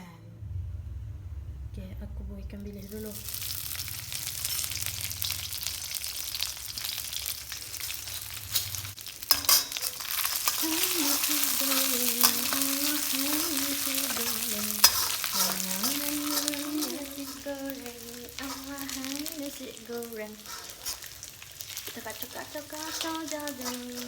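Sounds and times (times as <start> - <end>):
fish frying in hot oil: 3.1 - 24.0.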